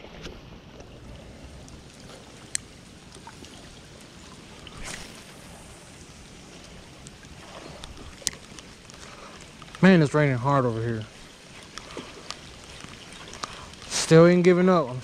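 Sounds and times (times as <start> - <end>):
rain falling: 1.0 - 15.0.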